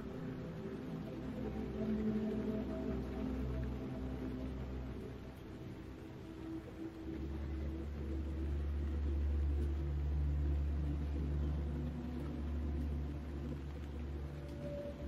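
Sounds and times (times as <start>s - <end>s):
faint sustained music tones: 0.0s - 15.0s.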